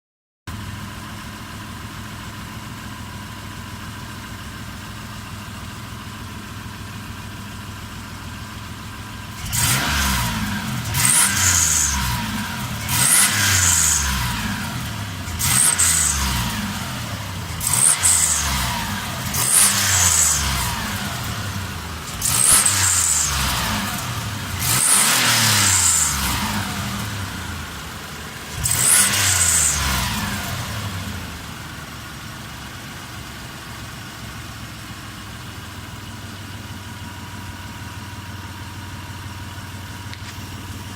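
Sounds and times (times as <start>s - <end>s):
car engine idling and revving: 0.5s - 40.9s.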